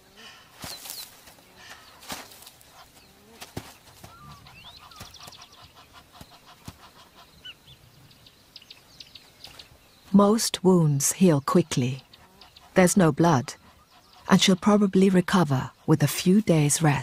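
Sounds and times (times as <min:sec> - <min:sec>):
bird calls: 0:00.1 - 0:10.2, 0:11.6 - 0:16.0.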